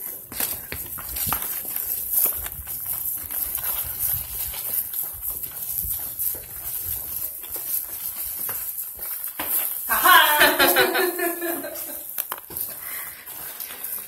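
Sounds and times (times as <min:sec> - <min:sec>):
footsteps on tiled floor: 0:00.0 - 0:14.0.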